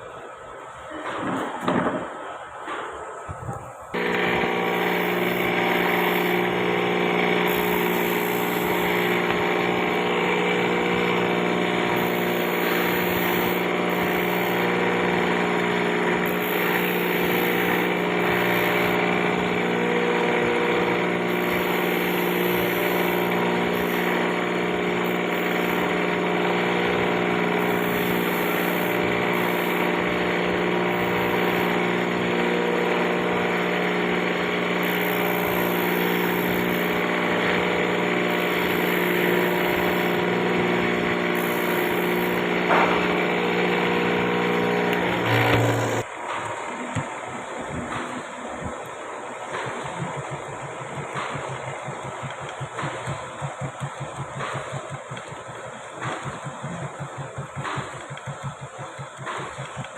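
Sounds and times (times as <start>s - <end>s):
electric motor humming: 3.9s - 59.9s.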